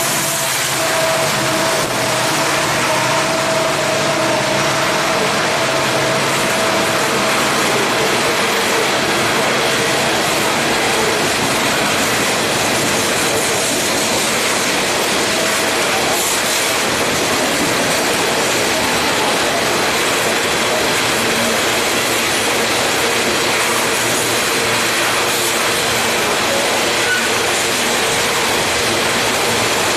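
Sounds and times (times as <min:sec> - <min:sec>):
freight train wheels on rail: 0:00.0 - 0:29.9.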